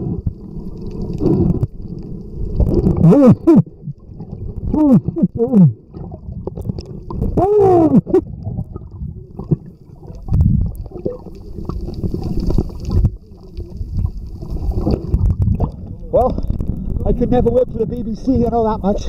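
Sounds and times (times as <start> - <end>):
underwater rumble of moving water: 0.0 - 19.0.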